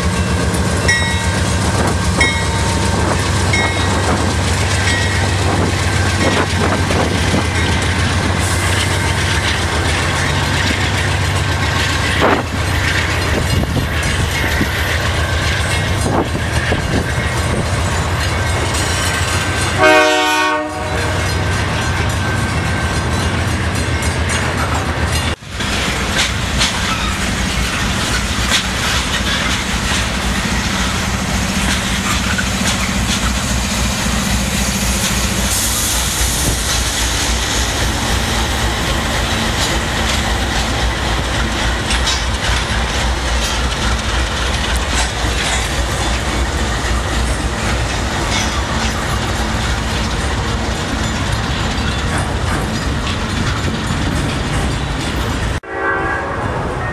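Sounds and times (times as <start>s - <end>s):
train wheels clacking over rail joints: 0.0s - 55.6s
diesel locomotive engine rumble: 0.0s - 56.9s
rattling rail cars: 0.0s - 56.9s.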